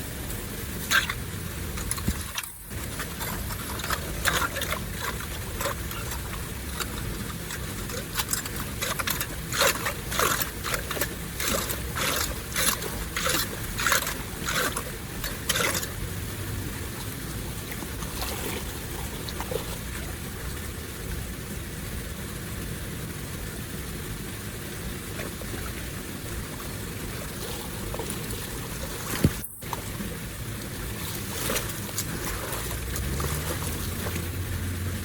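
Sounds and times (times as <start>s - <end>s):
scrapes and splashes: 0.0s - 21.2s, 24.8s - 35.0s
water rushing through a drain: 0.0s - 35.0s.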